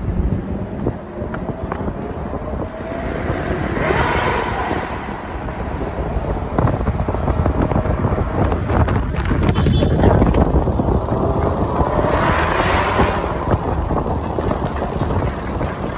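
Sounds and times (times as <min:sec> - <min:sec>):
road and traffic noise: 0:00.0 - 0:15.9
wind buffeting microphone: 0:00.0 - 0:15.9.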